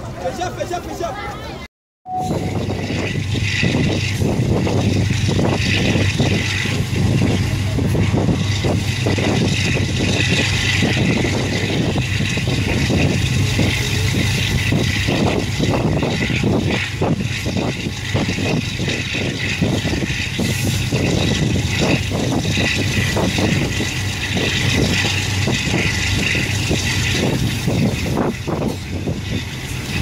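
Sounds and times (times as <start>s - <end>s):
rushing air: 2.1s - 30.0s
train wheels rumbling on rail: 2.1s - 30.0s
train clattering and knocking: 2.5s - 30.0s.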